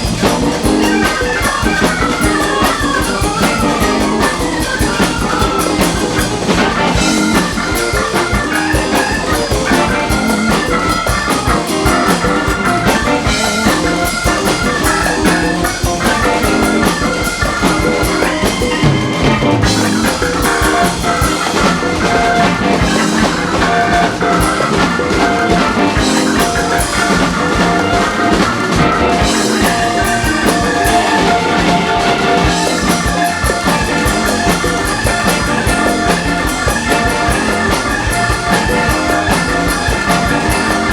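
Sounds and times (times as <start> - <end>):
drum kit: 0.0 - 40.9
guitar: 0.0 - 40.9.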